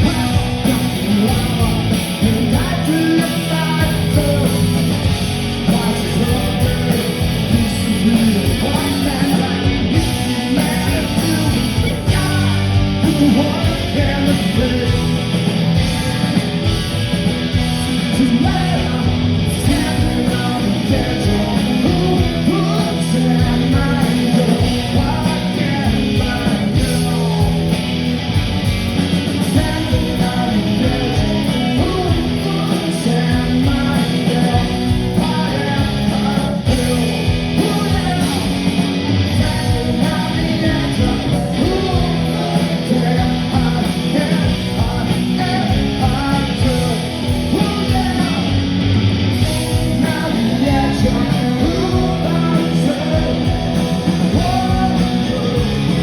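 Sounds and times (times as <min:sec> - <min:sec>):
person singing: 0:00.0 - 0:16.9, 0:17.6 - 0:27.8, 0:29.4 - 0:48.7, 0:49.5 - 0:56.0
rock band playing: 0:00.0 - 0:56.0.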